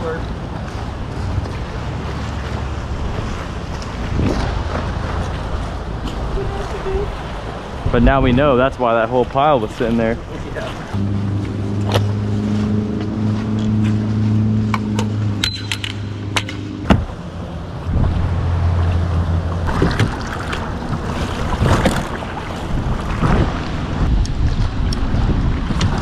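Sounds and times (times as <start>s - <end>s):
low engine hum: 0.0s - 8.7s, 10.2s - 26.0s.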